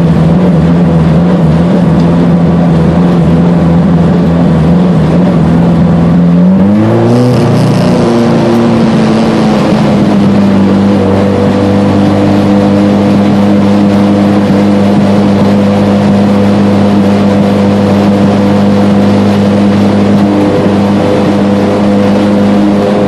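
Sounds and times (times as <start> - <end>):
car engine running steadily: 0.0 - 23.0.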